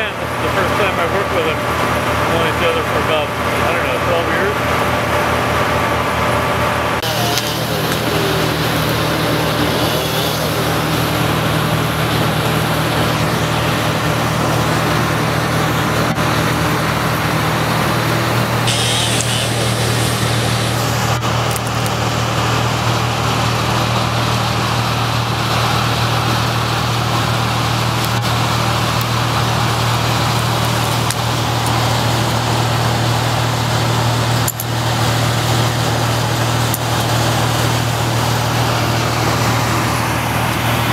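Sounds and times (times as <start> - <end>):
large engine running steadily: 0.0 - 40.9.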